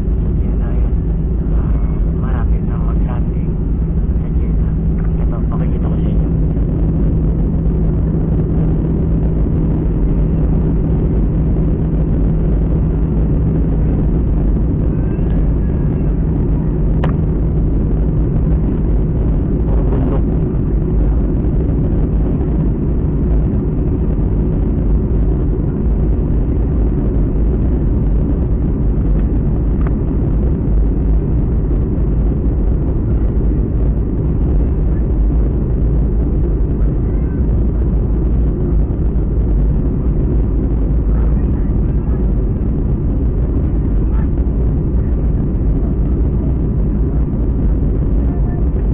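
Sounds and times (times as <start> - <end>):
airliner cabin engine rumble: 0.0 - 48.9
low hum: 0.0 - 48.9.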